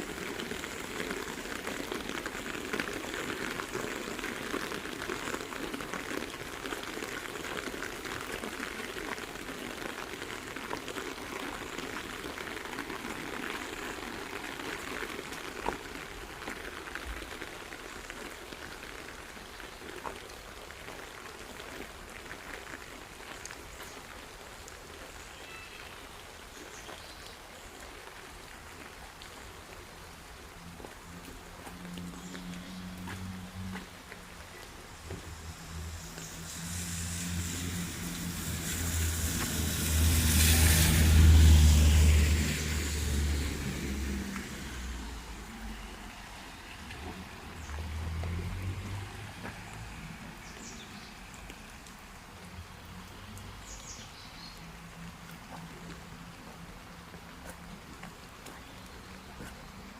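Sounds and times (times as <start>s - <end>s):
heavy rain falling: 0.0s - 59.9s
sharp drip-like ticks: 0.0s - 59.9s.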